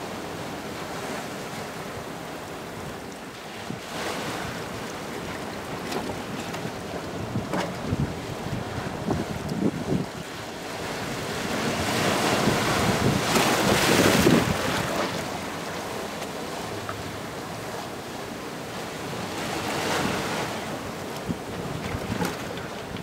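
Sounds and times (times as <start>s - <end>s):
waves breaking over rocks: 0.0s - 23.0s.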